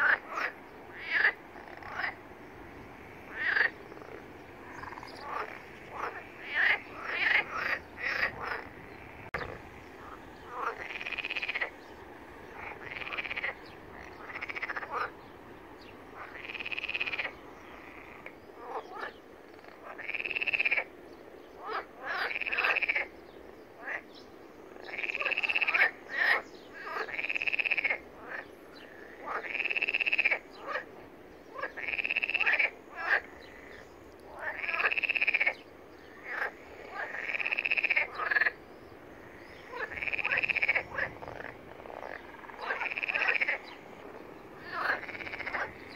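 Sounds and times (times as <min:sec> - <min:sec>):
frogs croaking: 0:00.0 - 0:45.9.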